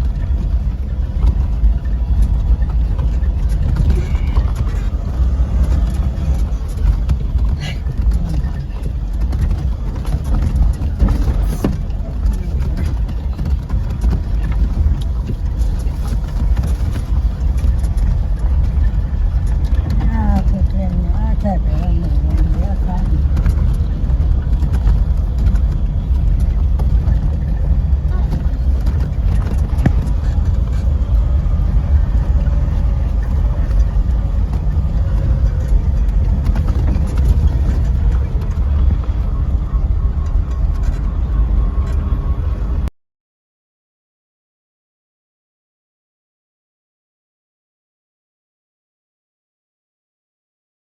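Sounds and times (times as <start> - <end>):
low vehicle rumble: 0.0 - 42.9.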